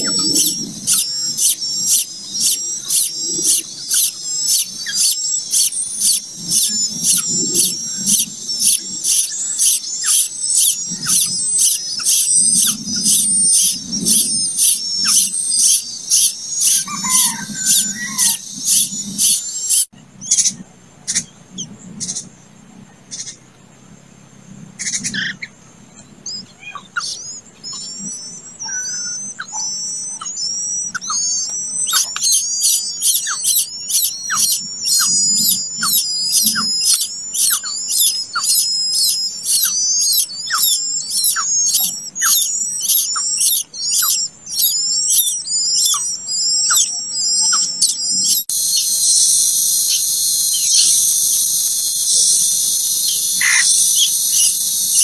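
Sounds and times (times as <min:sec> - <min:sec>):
nestlings chirping for food: 0:00.0 - 0:22.3, 0:24.8 - 0:55.0.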